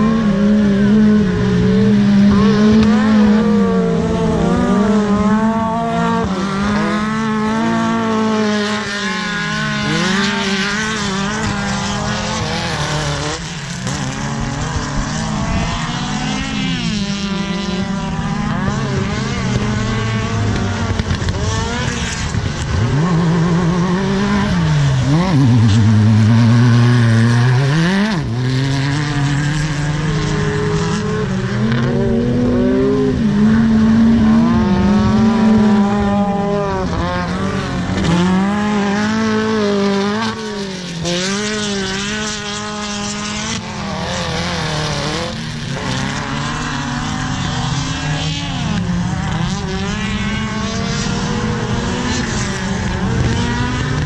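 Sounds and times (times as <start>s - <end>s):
racing buggy engines revving: 0.0s - 54.0s.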